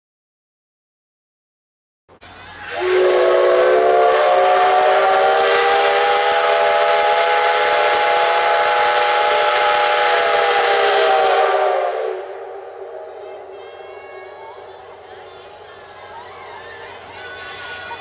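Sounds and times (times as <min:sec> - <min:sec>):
steam hissing: 0:02.2 - 0:18.0
steam whistle blowing: 0:02.4 - 0:18.0.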